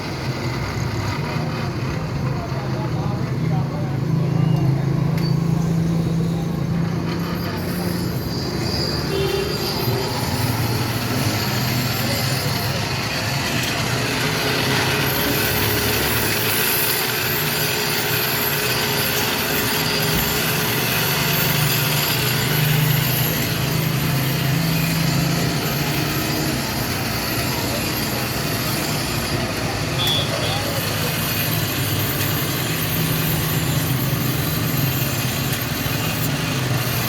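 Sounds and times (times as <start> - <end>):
knife sharpening machine grinding: 0.0 - 37.0.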